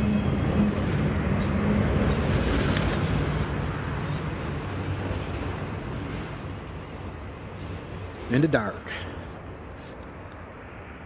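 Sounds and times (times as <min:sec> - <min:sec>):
freight train cars rumbling: 0:00.0 - 0:10.7.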